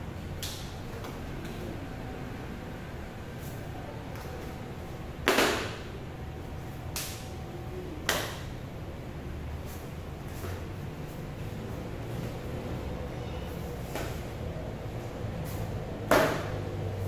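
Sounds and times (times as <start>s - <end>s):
fan hum: 0.0s - 17.0s.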